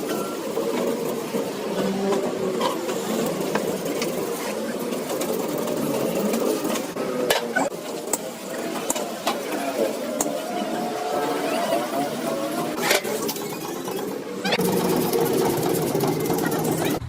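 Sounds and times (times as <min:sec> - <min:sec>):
machine clattering: 0:00.0 - 0:17.0.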